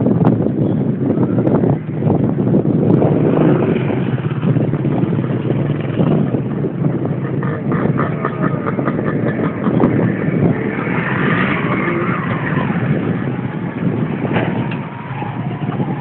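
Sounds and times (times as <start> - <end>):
bike tyres rumbling and rattling: 0.0 - 16.0.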